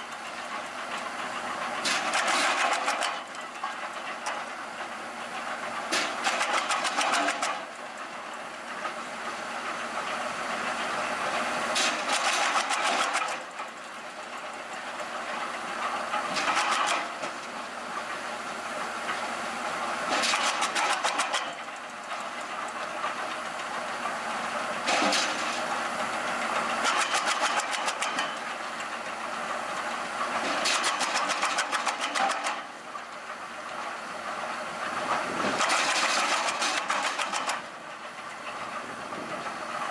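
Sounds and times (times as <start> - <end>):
wood chipper running drone: 0.0 - 39.9.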